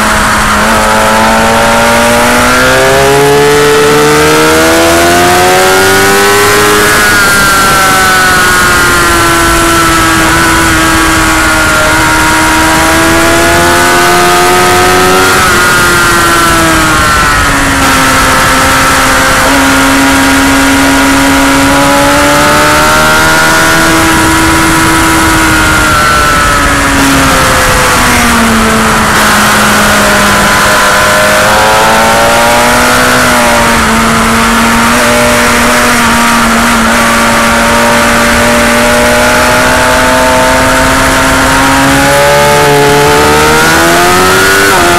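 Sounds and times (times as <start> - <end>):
motorcycle engine accelerating: 0.0 - 44.9
wind noise: 0.0 - 44.9.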